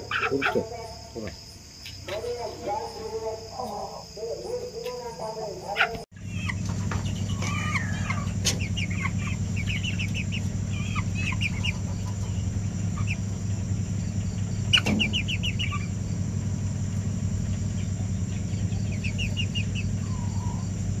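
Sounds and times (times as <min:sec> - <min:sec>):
chicks peeping: 0:00.0 - 0:21.0
steady low hum: 0:00.0 - 0:21.0.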